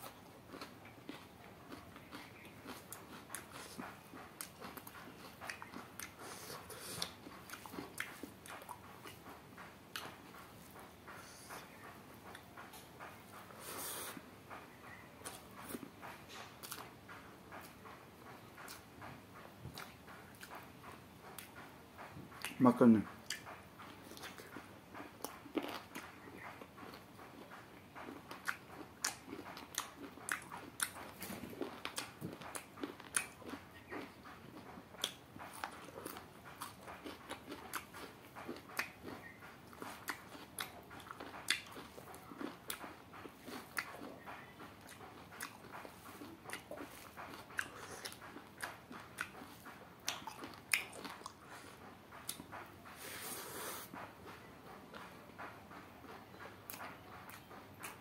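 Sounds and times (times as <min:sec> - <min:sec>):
person chewing and biting: 0:00.0 - 0:11.7, 0:15.2 - 0:18.9, 0:19.7 - 0:20.7, 0:23.2 - 0:54.1.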